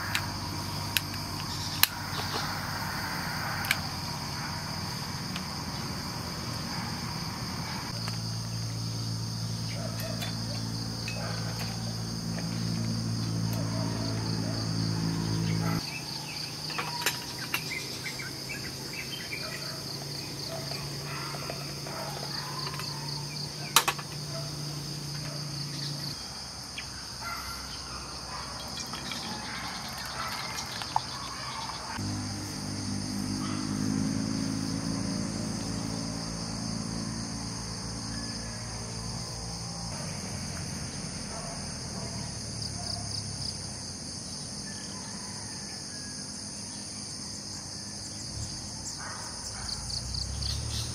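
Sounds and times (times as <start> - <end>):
crickets and night insects trilling: 0.0 - 50.9.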